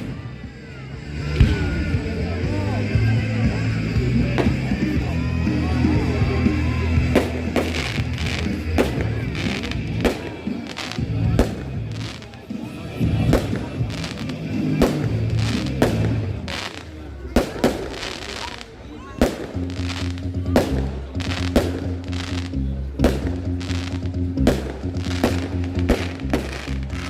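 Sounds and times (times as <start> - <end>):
firework bangs and crackles: 0.0 - 27.0
music with deep bass: 0.0 - 27.0.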